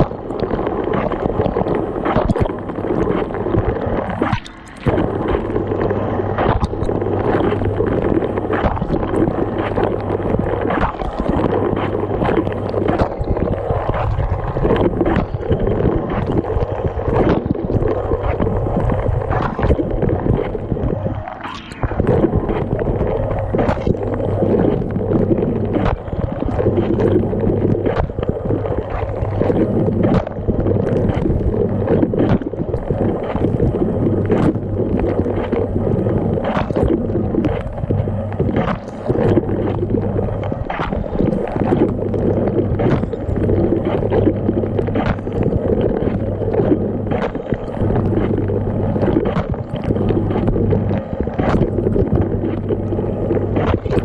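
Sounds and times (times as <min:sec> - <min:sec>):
water spraying and sloshing: 0:00.0 - 0:54.0.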